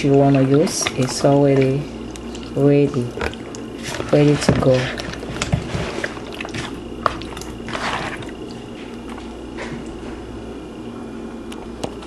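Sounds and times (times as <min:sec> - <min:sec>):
wet squishing of hand rubbing fish: 0:00.0 - 0:10.2
faint steady hum: 0:00.0 - 0:12.0.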